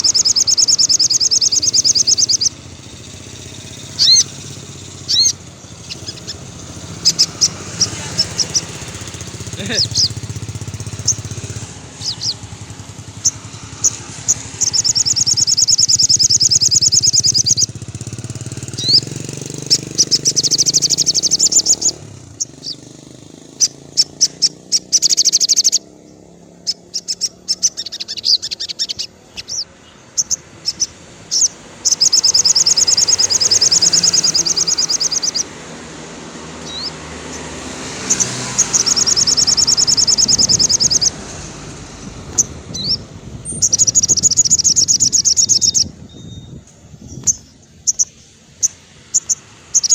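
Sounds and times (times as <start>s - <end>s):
bird chirps: 0.0s - 49.9s
songbird trilling: 0.0s - 49.9s.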